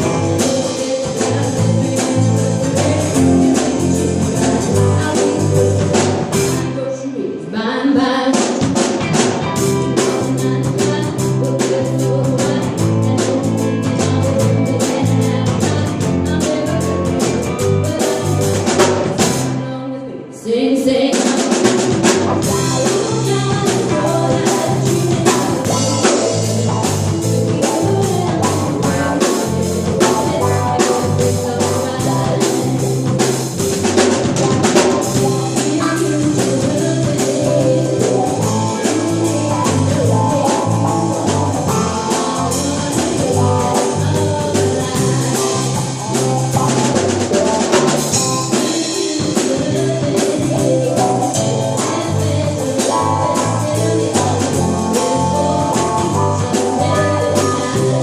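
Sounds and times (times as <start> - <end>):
drum kit beat: 0.0 - 6.8, 8.3 - 19.6, 21.1 - 58.0
bass: 0.0 - 7.3, 8.0 - 58.0
guitar: 0.0 - 58.0.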